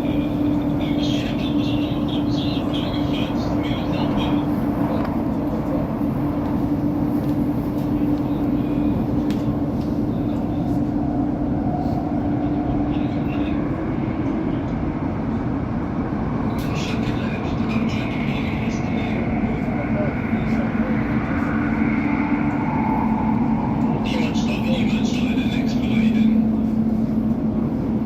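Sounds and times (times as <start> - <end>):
constant humming tone: 0.0 - 28.0
train rumbling on rails: 0.0 - 28.0.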